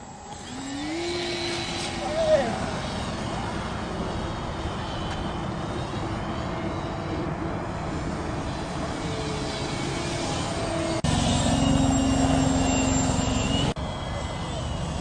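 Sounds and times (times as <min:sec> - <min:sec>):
model airplane motor buzzing: 0:00.0 - 0:15.0.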